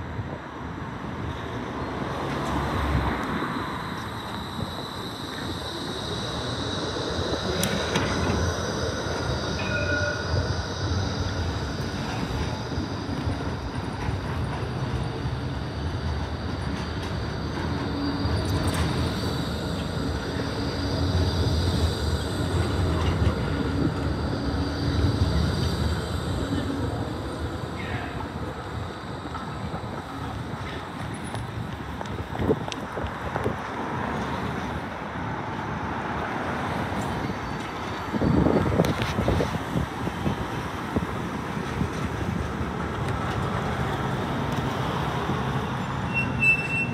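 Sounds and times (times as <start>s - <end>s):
tram motors and wheels rumbling: 0.0s - 46.9s.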